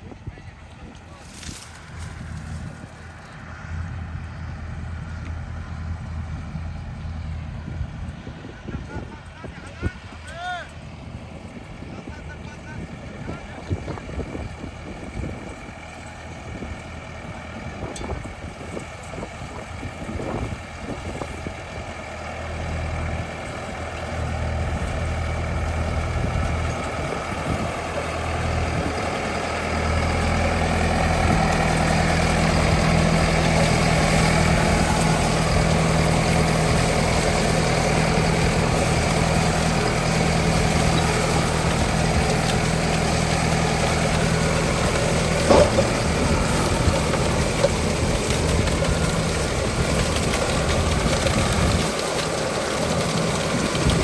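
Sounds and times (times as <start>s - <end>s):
harvesting machine engine running: 0.0s - 54.0s.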